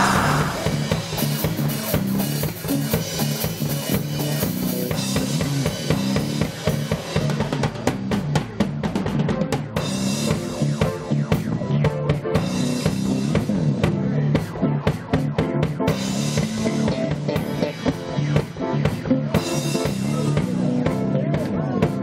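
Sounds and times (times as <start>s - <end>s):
bass line: 0.0s - 22.0s
drum kit playing a beat: 0.0s - 22.0s.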